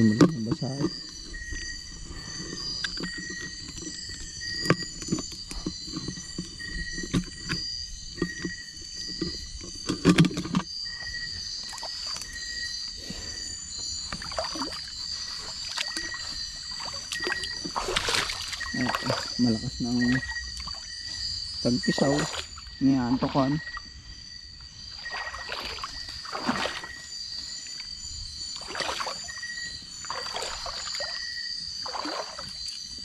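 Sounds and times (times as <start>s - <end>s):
water sloshing and splashing: 0.0s - 13.0s, 13.6s - 33.0s
night insects chirping: 0.0s - 33.0s.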